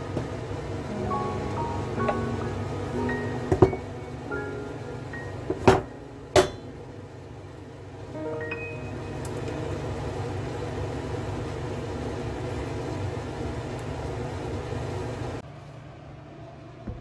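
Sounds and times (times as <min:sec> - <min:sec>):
gas stove burners rumbling: 0:00.0 - 0:17.0.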